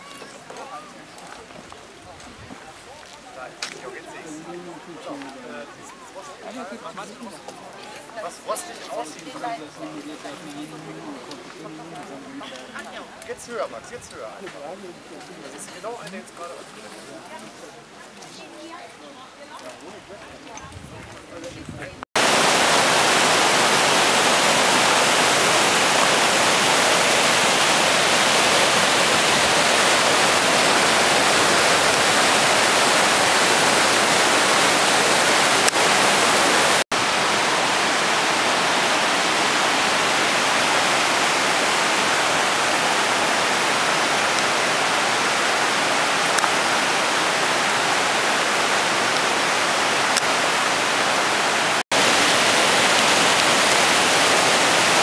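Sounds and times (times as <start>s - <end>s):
mountain stream rushing: 0.0s - 14.0s, 22.2s - 55.0s.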